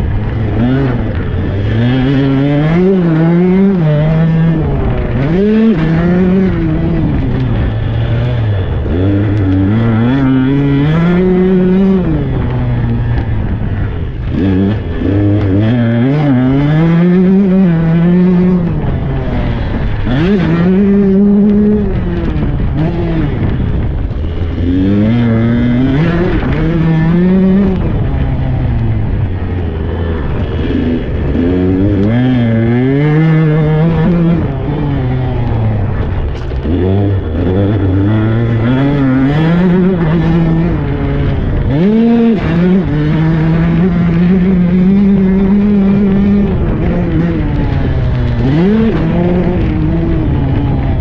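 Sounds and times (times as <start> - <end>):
two-stroke dirt bike engine revving: 0.0 - 51.0.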